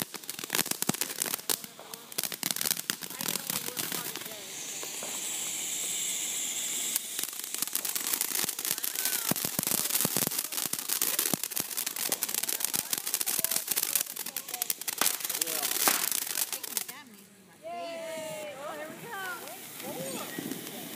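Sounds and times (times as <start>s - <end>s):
firework fountain hissing and crackling: 0.0s - 20.9s.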